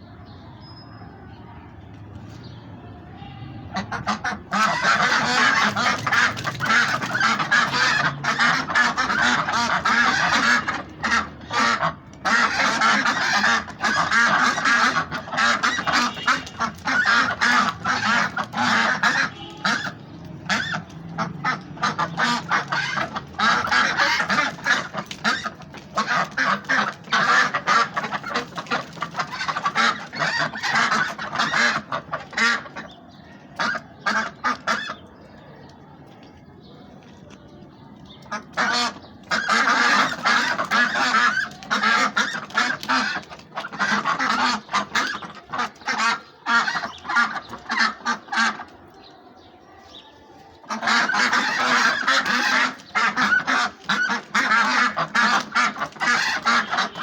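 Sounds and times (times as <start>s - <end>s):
flock of ducks quacking: 3.6s - 35.8s, 36.6s - 57.0s.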